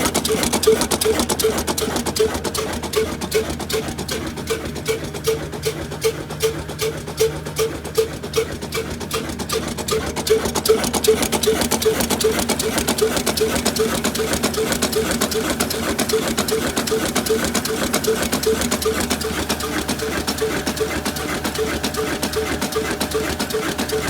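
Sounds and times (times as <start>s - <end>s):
diesel engine knocking steadily: 0.0s - 24.0s.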